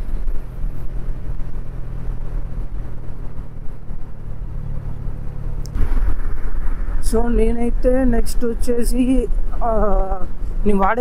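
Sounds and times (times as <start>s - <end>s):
motorcycle engine cruising: 0.0s - 10.7s.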